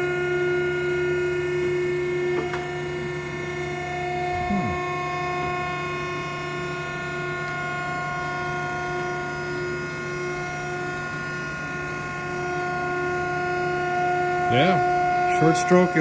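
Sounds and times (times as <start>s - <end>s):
hydraulic pump motor humming: 1.4s - 16.0s.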